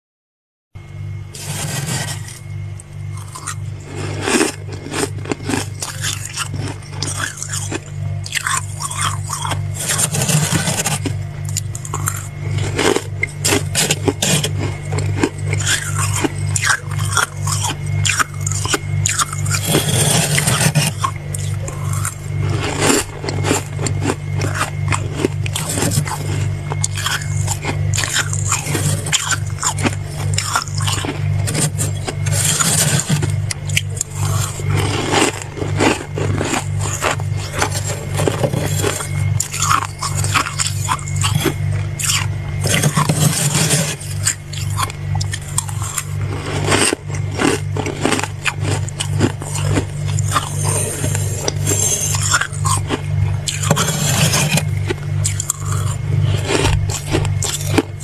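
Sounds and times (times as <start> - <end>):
crunching and chewing frost: 0.8 - 58.0
steady low hum: 0.8 - 58.0.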